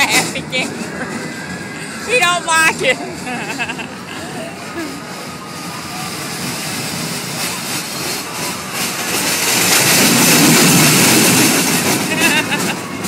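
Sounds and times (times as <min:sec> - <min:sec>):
roller coaster wheels on steel track: 0:00.0 - 0:13.0.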